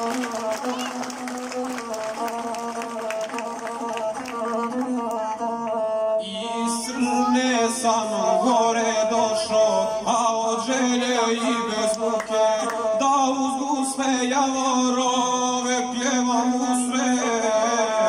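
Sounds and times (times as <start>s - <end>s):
man singing: 0.0s - 18.0s.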